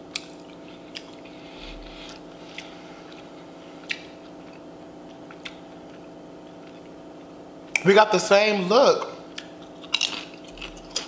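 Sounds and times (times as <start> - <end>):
person chewing food: 0.0 - 7.8, 9.3 - 11.0
steady low hum: 0.0 - 11.0.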